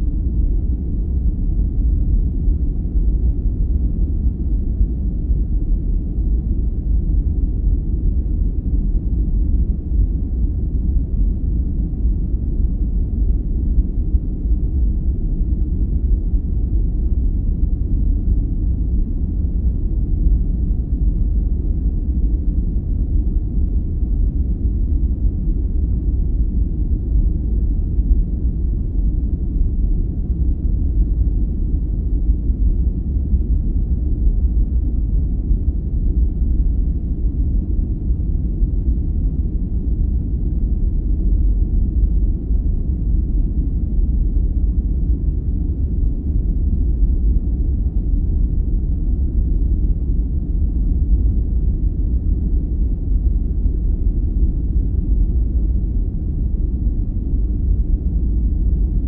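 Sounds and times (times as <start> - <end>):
low rumbling sleep noise: 0.0 - 59.0.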